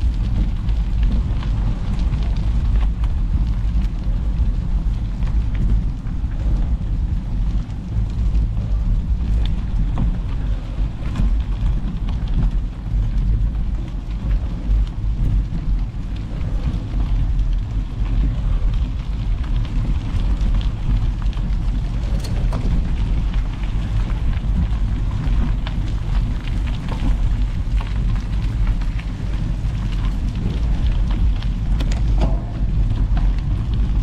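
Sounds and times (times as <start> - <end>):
bike tyres crunching on gravel: 0.0 - 34.0
wind rumbling on microphone: 0.0 - 34.0.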